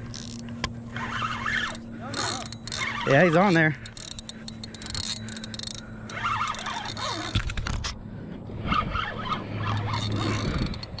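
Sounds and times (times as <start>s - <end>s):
faint steady hum: 0.0s - 11.0s
fishing reel clicking: 0.1s - 7.7s, 8.8s - 11.0s.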